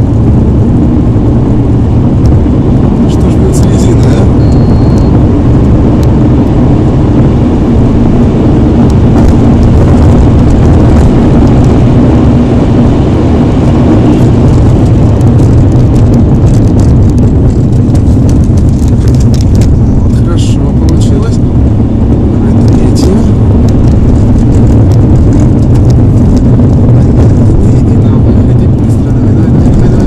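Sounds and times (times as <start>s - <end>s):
diesel engine drone in car cabin: 0.0s - 30.0s
road and wind noise: 0.0s - 30.0s.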